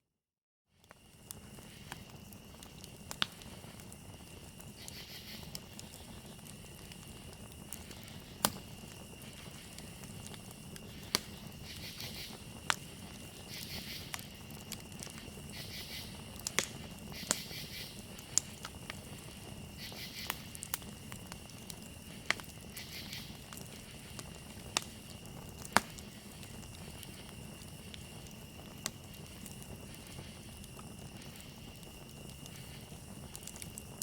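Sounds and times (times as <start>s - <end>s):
campfire crackling: 0.7s - 34.0s
crickets chirping: 0.7s - 34.0s
burning wood popping: 0.8s - 34.0s
insect trilling: 1.0s - 34.0s.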